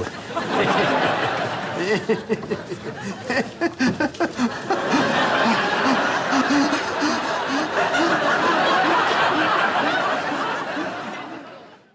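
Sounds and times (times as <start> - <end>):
studio audience laughing: 0.0 - 11.9.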